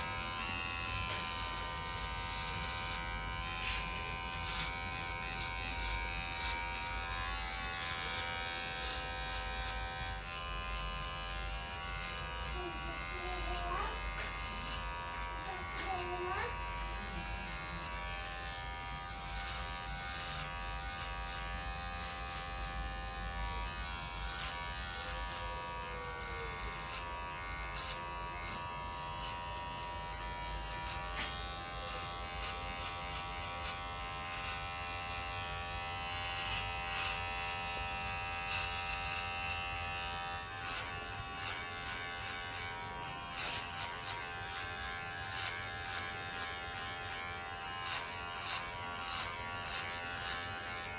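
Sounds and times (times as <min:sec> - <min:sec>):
electric hair clipper buzzing: 0:00.0 - 0:50.9.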